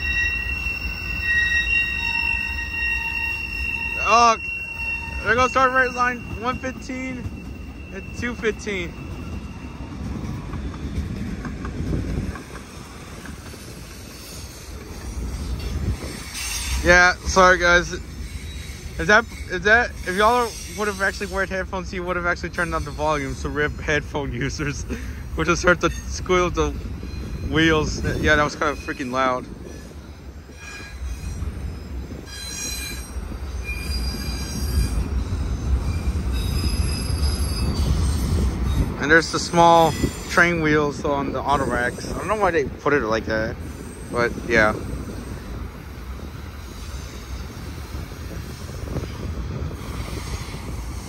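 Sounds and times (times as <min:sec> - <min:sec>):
train cars rumbling past: 0:00.0 - 0:51.0.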